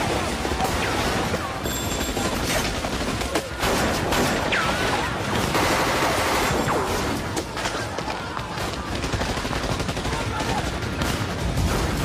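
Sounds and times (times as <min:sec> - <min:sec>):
rapid gunshots: 0:00.0 - 0:12.0.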